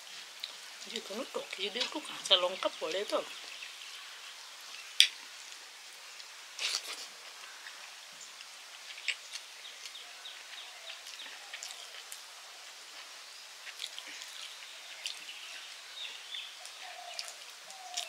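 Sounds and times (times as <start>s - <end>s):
soft chewing: 0.0s - 2.3s, 4.1s - 18.0s
outdoor hiss: 0.0s - 18.0s.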